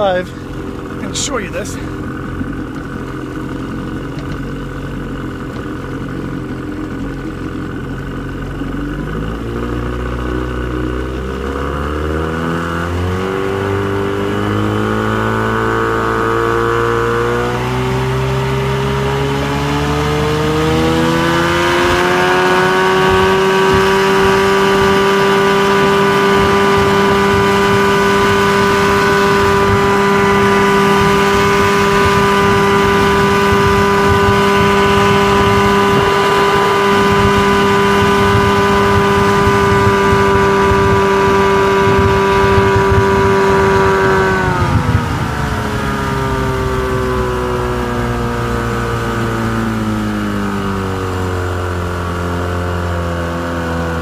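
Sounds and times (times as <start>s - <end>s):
outboard motor accelerating: 0.0s - 54.0s.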